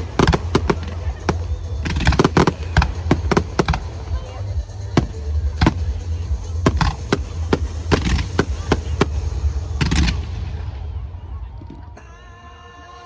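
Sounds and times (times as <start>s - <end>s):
fireworks bangs: 0.0s - 4.3s, 4.9s - 12.0s
deep rumble: 0.0s - 12.0s.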